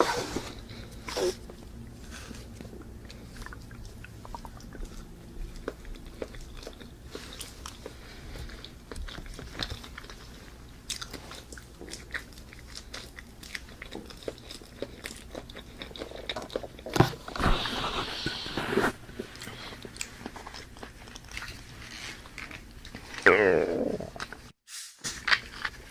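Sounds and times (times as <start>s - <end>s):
person chewing: 0.0s - 24.5s.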